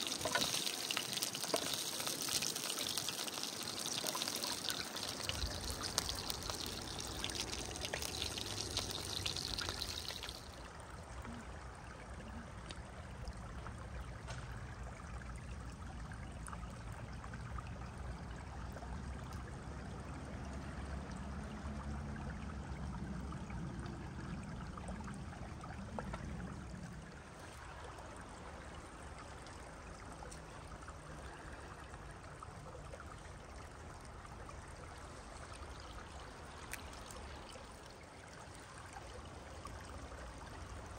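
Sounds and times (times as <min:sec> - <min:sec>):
stream running over rocks: 0:00.0 - 0:14.7, 0:17.9 - 0:40.9.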